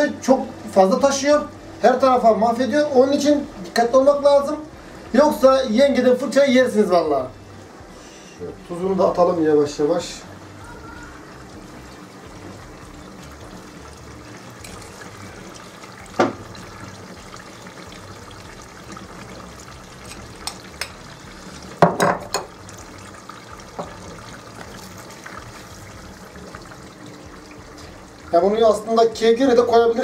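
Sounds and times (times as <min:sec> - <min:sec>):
fat sizzling and bubbling in a pot: 0:00.0 - 0:30.0.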